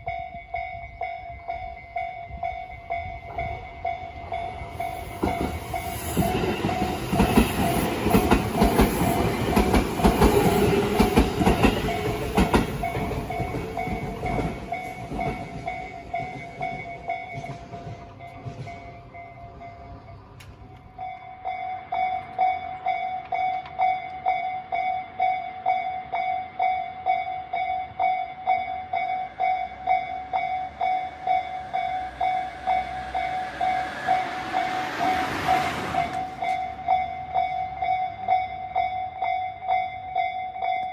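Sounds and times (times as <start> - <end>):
train passing: 0.0 - 40.9.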